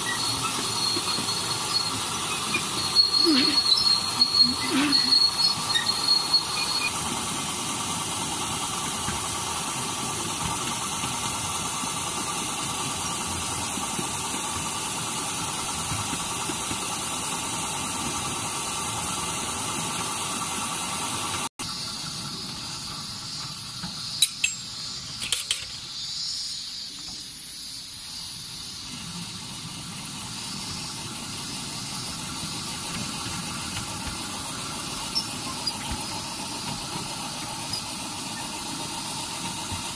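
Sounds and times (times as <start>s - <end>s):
miniature train rolling: 0.0s - 39.9s.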